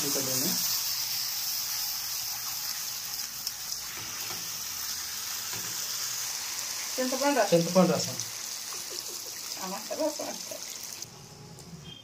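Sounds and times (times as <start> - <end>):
fish sizzling in a pan: 0.0 - 11.1.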